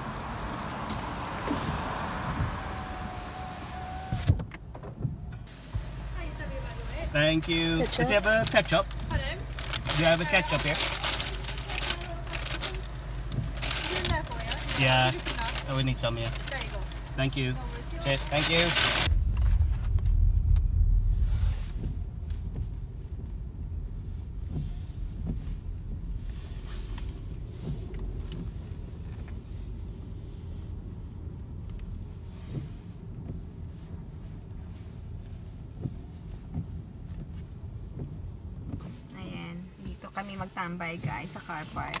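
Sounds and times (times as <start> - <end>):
car engine rumble from inside: 0.0 - 42.0.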